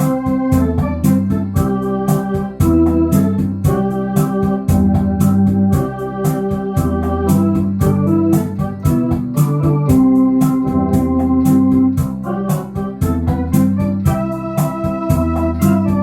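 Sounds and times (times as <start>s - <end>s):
drum machine rhythm ticking: 0.0s - 16.0s
electronic organ playing rumba: 0.0s - 16.0s.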